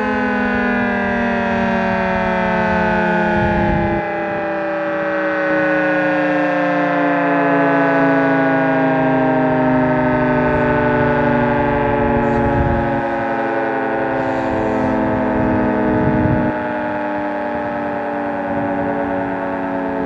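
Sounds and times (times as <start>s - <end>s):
two-tone siren winding down: 0.0s - 20.0s.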